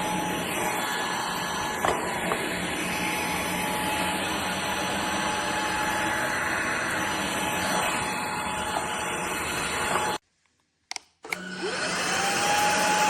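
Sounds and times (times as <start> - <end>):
stick vacuum whirring: 0.0 - 10.2, 11.2 - 13.0.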